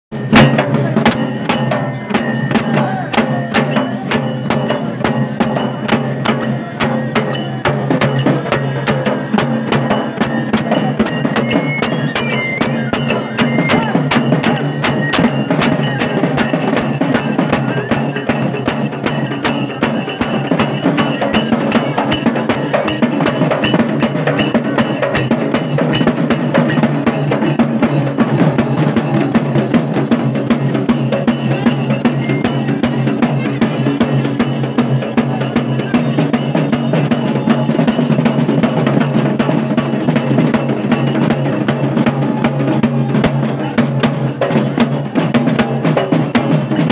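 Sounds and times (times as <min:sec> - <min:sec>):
drums beaten in fast rhythm: 0:00.1 - 0:46.9
small hand cymbals clashing: 0:00.2 - 0:46.9.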